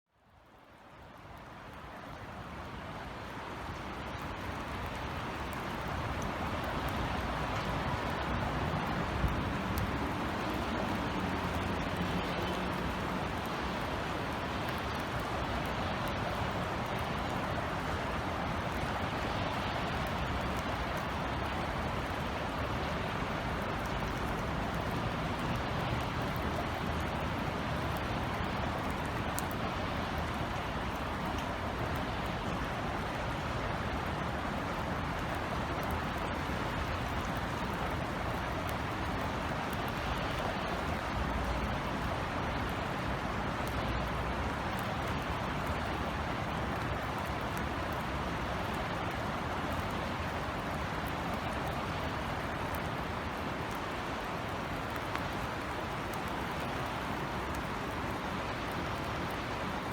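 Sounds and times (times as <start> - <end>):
low city rumble: 3.3 - 59.9.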